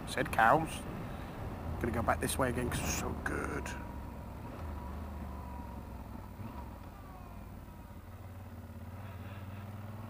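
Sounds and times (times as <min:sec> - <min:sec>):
motorcycle engine at low revs: 0:00.4 - 0:10.0.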